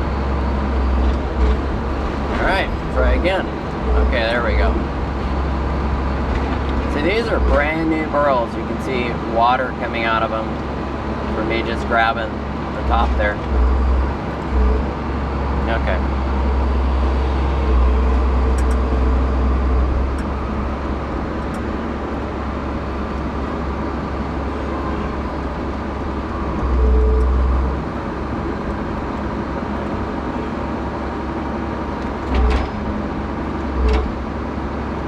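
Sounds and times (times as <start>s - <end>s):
heavy machine engine revving: 0.0s - 35.0s.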